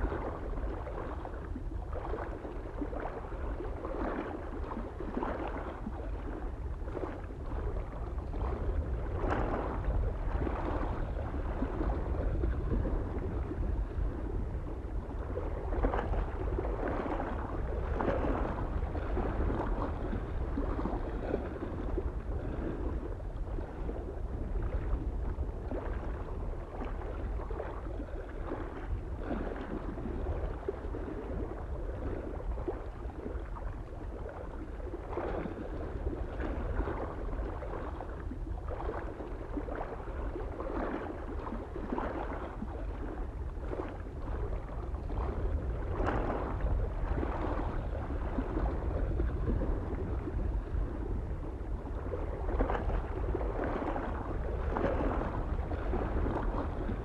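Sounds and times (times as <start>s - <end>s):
low wind rumble: 0.0s - 57.0s
small waves lapping on shore: 0.0s - 57.0s.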